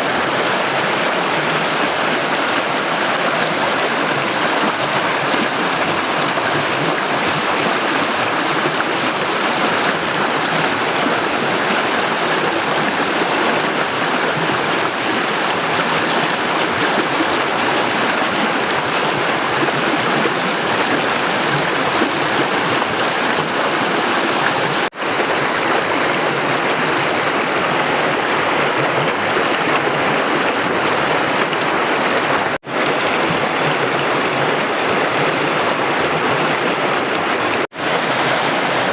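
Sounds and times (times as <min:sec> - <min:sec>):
river water rushing and splashing: 0:00.0 - 0:38.9.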